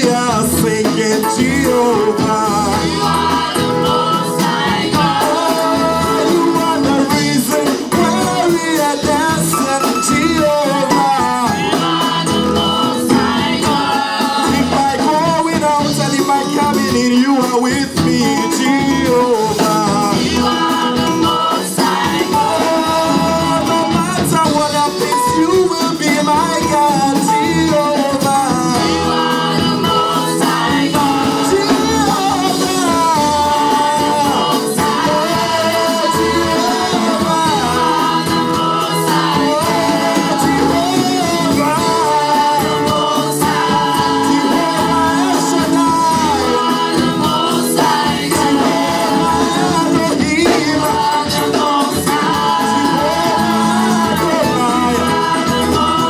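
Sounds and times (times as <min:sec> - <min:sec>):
band with steady beat: 0:00.0 - 0:56.0
worship team singing into microphones: 0:00.0 - 0:56.0.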